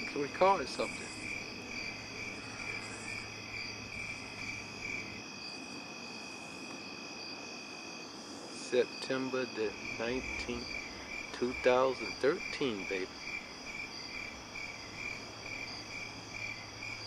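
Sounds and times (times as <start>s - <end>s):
crickets and insects trilling: 0.0s - 17.0s.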